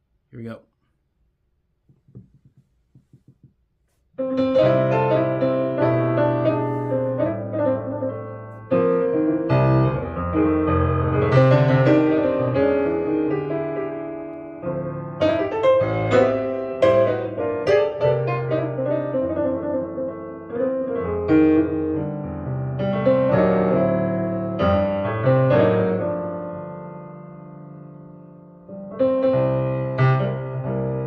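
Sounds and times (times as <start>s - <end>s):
piano music over loudspeakers: 4.2s - 31.0s.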